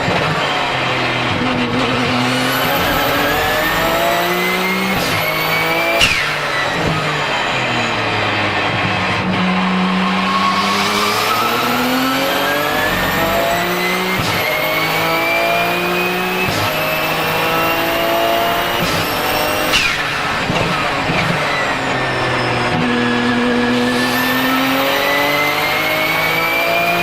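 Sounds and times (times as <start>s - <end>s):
gearbox upshifts: 0.0s - 27.0s
racing car engine at full throttle: 0.0s - 27.0s
turbo whistle: 2.3s - 8.2s, 9.5s - 26.7s.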